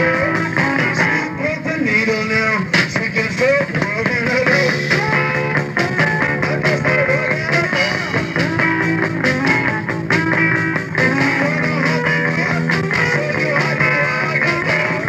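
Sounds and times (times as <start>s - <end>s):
electric guitar lines: 0.0s - 15.0s
steady drum beat: 0.0s - 15.0s.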